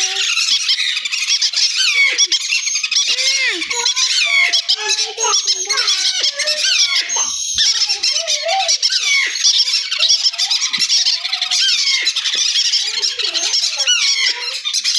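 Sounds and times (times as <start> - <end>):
parrots chattering and squawking: 0.0 - 14.9.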